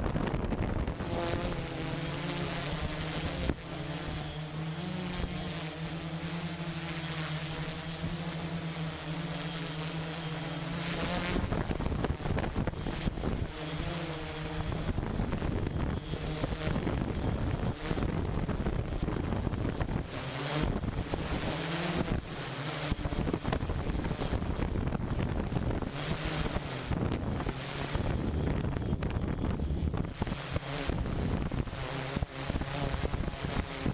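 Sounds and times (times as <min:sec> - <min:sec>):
wind on microphone: 0:00.0 - 0:06.7, 0:10.0 - 0:33.9
machine engine humming: 0:00.0 - 0:31.7.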